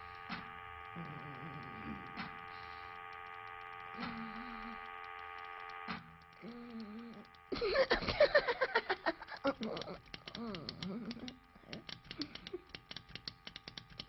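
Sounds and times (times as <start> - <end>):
low wavering droning tones: 0.0 - 12.7
machine hum: 0.0 - 14.0
sharp clicks: 0.0 - 14.0.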